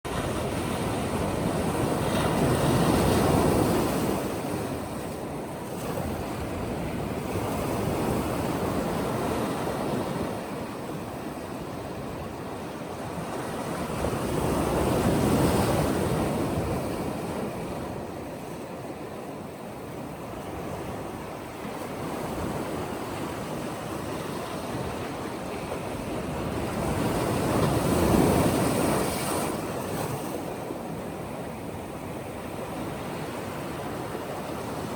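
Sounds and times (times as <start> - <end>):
ocean waves breaking on beach: 0.1 - 34.9.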